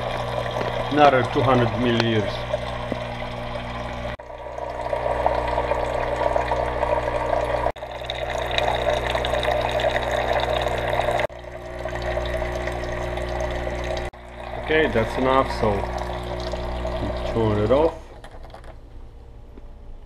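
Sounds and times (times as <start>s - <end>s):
espresso machine pump humming: 0.0s - 18.8s.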